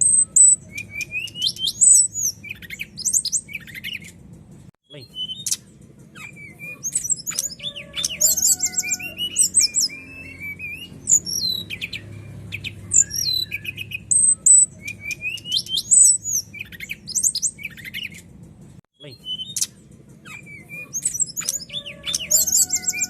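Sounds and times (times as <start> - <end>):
bird singing whistles and trills: 0.0 - 4.2, 4.9 - 18.3, 19.0 - 23.0.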